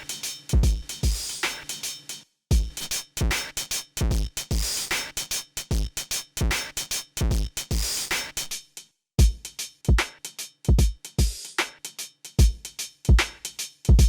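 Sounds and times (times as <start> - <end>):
drum machine beat: 0.0 - 8.6, 9.2 - 14.0.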